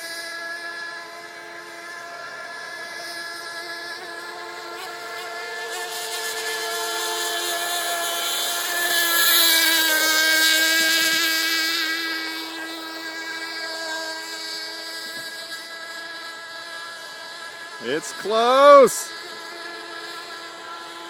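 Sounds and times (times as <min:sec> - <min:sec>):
model boat engine whine: 0:00.0 - 0:21.0.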